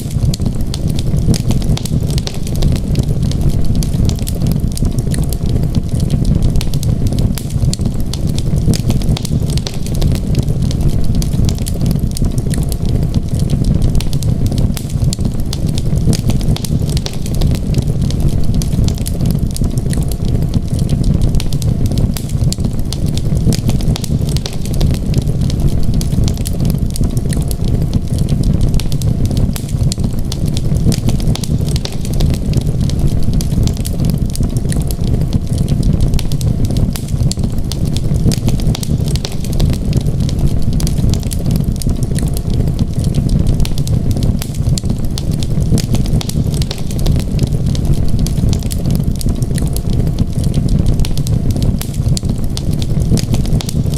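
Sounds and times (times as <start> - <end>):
low rumble: 0.0 - 53.9
wood fire crackling: 0.0 - 53.9.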